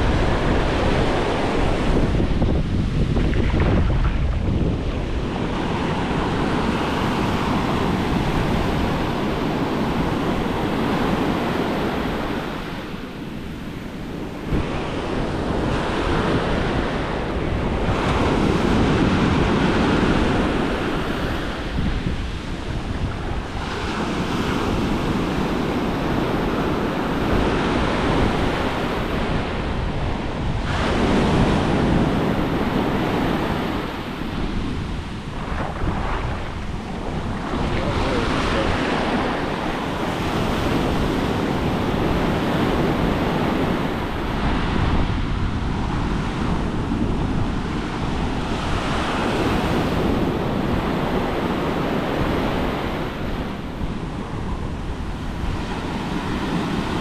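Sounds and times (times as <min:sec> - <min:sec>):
surf breaking on sand: 0:00.0 - 0:57.0.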